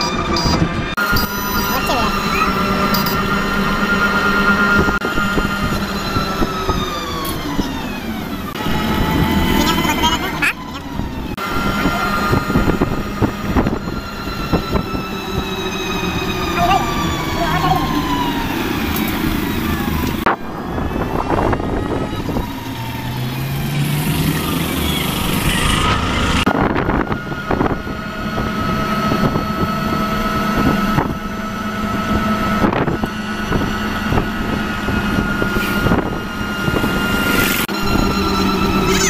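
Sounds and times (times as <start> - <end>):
steady whine: 0.0 - 23.4, 24.3 - 39.0
vehicle engine and road noise: 0.0 - 39.0.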